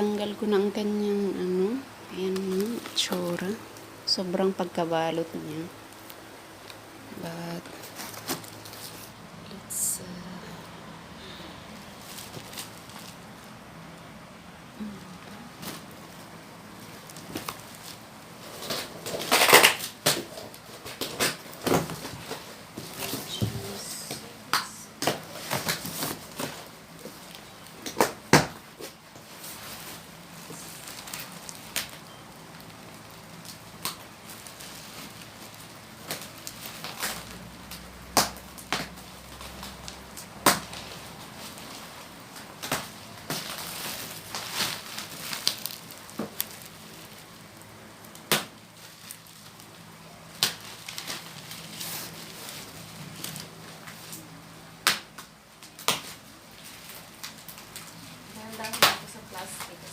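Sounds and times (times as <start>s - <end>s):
packing material crackling: 0.2s - 10.6s, 11.2s - 13.6s, 14.8s - 59.9s.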